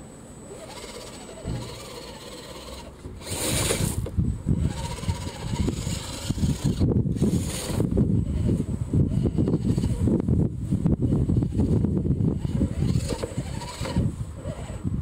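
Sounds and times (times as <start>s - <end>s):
wind rumble on microphone: 1.4s - 15.0s.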